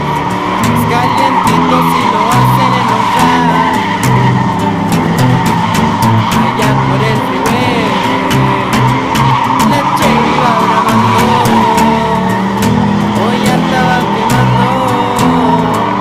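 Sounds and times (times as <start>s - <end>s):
tires squealing: 0.0s - 16.0s.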